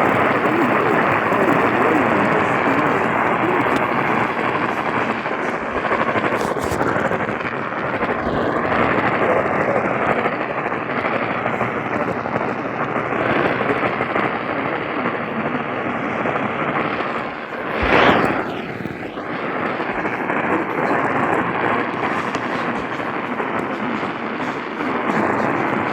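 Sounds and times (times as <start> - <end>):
radio static hiss: 0.0 - 25.9.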